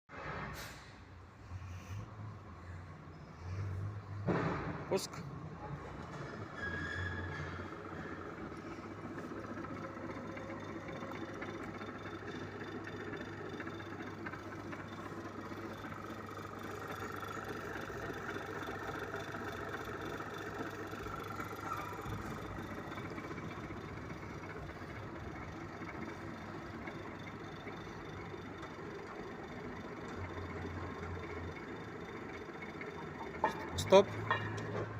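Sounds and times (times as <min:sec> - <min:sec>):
lathe motor hum and whine: 0:05.7 - 0:34.9.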